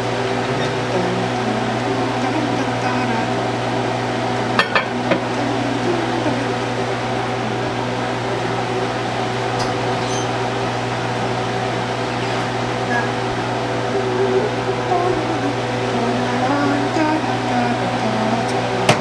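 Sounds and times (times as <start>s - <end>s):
appliance electrical hum: 0.0s - 19.0s.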